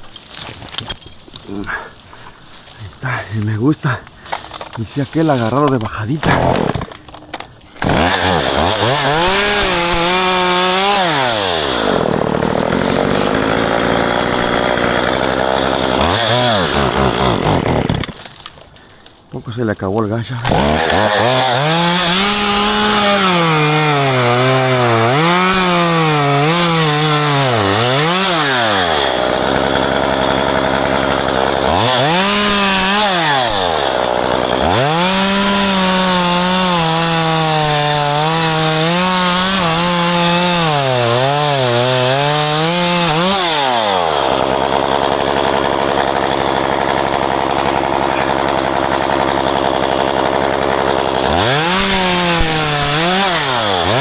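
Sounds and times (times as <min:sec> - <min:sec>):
chainsaw cutting branches: 0:00.0 - 0:19.4, 0:20.4 - 0:54.0.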